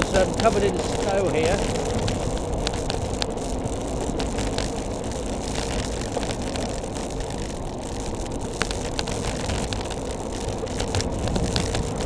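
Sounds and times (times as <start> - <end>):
bicycle tyres on road: 0.0 - 12.0
wind rushing over microphone: 0.0 - 12.0.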